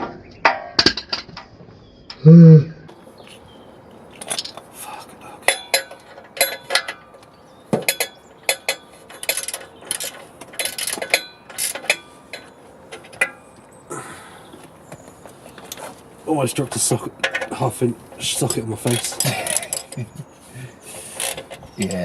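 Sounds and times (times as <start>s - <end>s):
metal tools clinking on exhaust: 4.1s - 22.0s.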